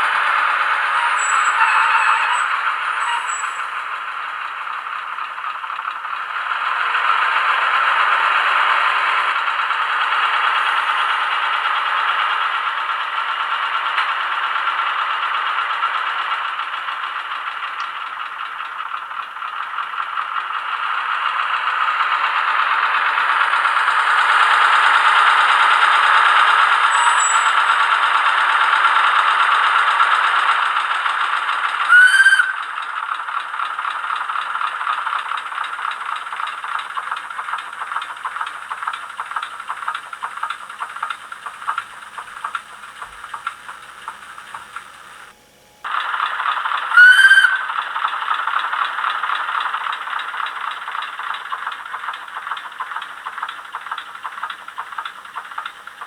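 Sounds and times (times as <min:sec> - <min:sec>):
model diesel engine sound: 0:00.0 - 0:56.0.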